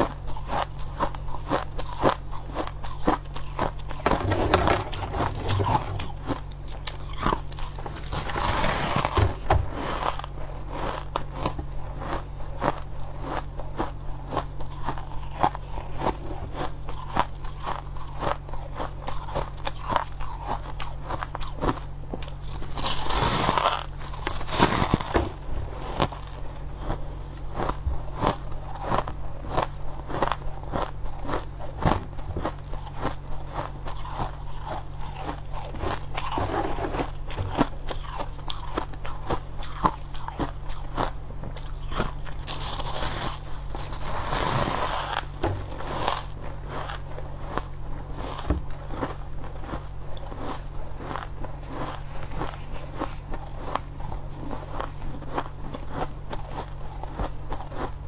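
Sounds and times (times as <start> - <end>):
chewing crunchy ice: 0.0 - 58.0.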